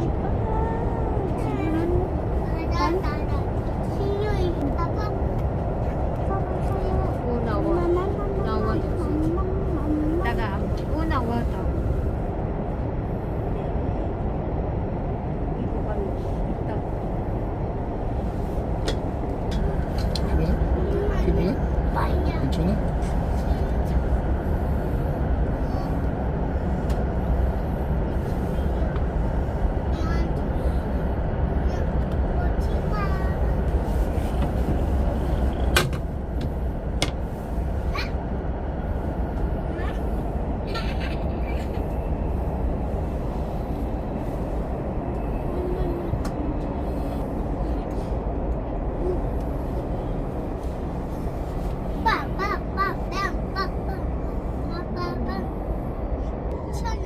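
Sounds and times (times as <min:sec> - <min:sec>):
rolling noise rush: 0:00.0 - 0:57.0
train interior rumble: 0:00.0 - 0:57.0.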